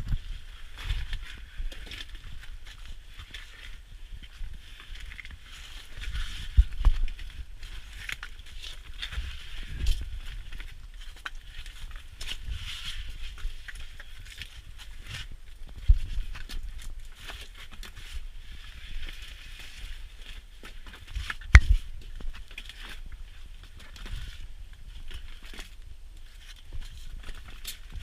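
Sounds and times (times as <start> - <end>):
footsteps on stony ground: 0.0 - 28.0.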